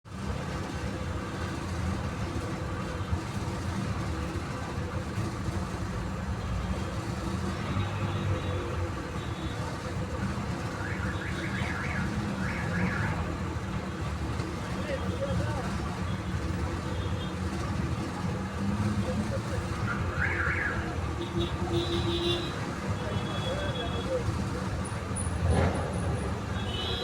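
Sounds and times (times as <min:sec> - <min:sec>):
traffic rumble: 0:00.1 - 0:27.0.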